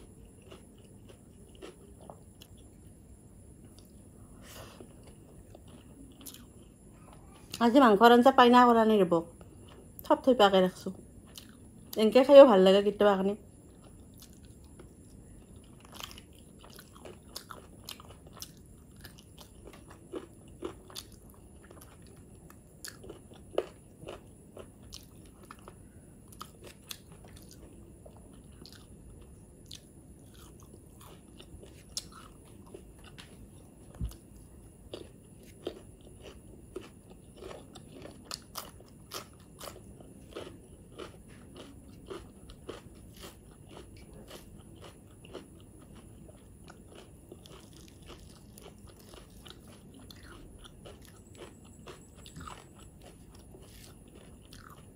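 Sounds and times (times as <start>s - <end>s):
person chewing and smacking: 0.0s - 7.6s, 11.2s - 12.0s, 13.6s - 54.9s.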